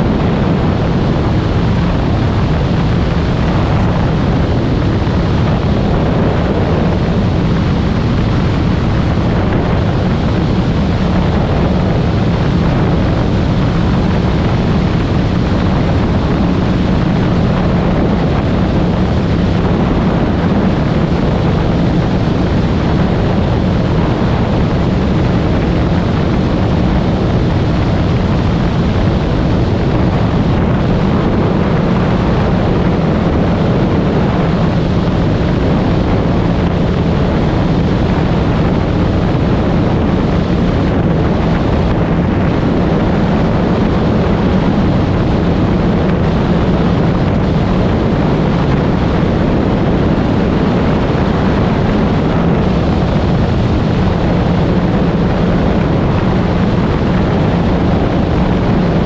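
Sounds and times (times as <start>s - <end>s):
airplane engine drone: 0.0s - 59.0s
wind buffeting microphone: 0.0s - 59.0s.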